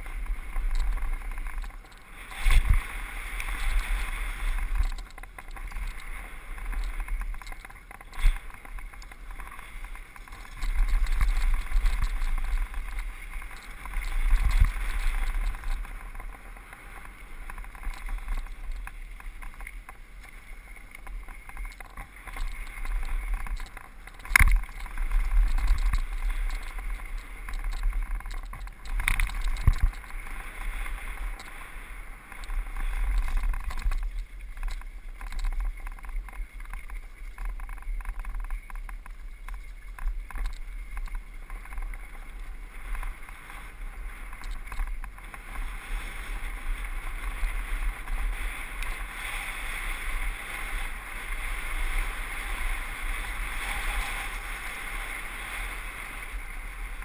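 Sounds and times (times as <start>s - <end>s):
bike tyre and frame rattle: 0.0s - 57.0s
wind buffeting microphone: 0.0s - 57.0s.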